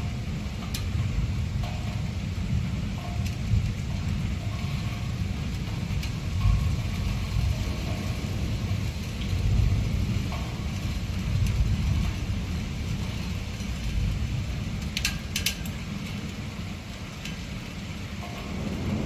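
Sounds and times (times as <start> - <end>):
rain ticking on window glass: 0.0 - 19.0
thunder rumbling: 0.0 - 19.0.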